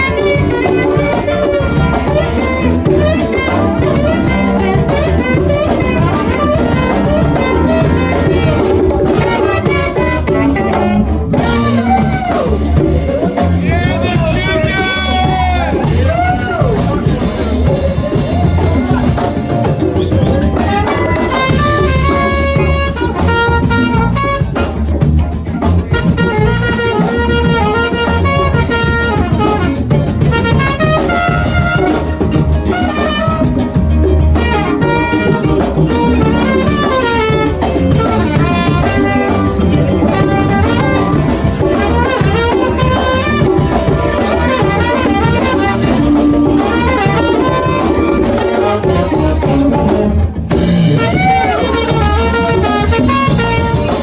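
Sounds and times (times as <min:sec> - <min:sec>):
bass: 0:00.0 - 0:54.0
drum kit: 0:00.0 - 0:54.0
horn playing quick melody: 0:00.0 - 0:54.0.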